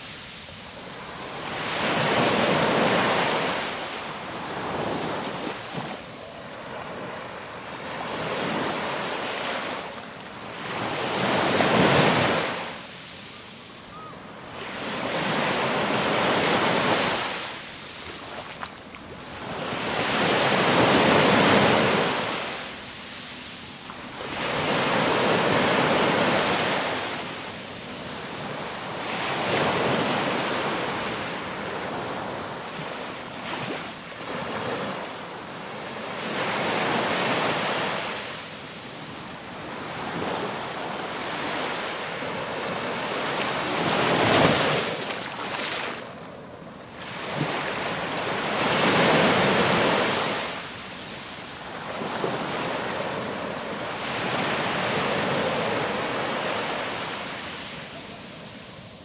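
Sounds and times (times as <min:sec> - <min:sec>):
ocean waves surging and washing back: 0:00.0 - 0:59.0.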